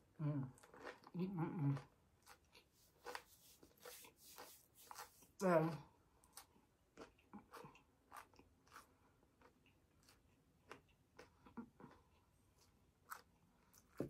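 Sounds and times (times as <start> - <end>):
chewing crunchy taco: 0.4 - 5.4, 6.2 - 14.0.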